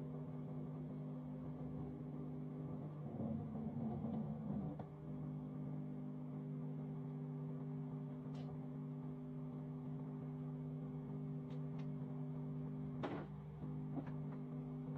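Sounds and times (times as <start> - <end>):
microwave oven humming: 0.0 - 14.9.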